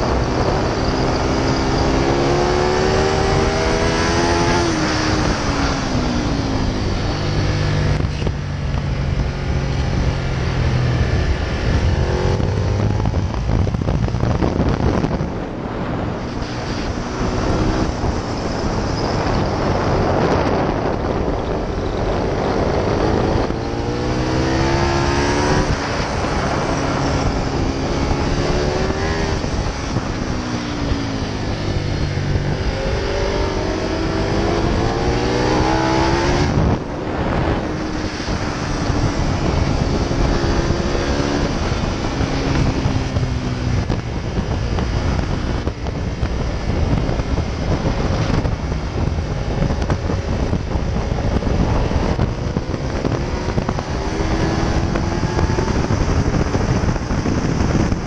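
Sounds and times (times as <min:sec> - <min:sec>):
motorcycle engine revving: 0:00.0 - 0:58.0
wind rush: 0:00.0 - 0:58.0.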